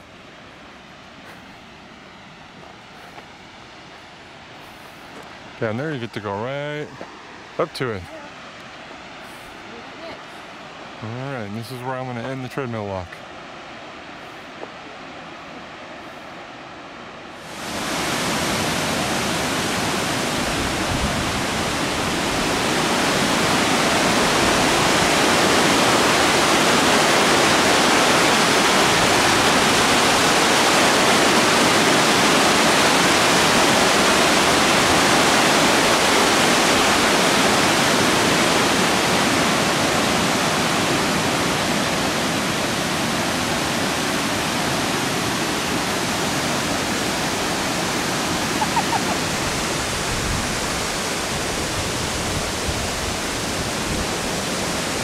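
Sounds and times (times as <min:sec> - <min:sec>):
waterfall rushing: 0:01.8 - 0:55.0.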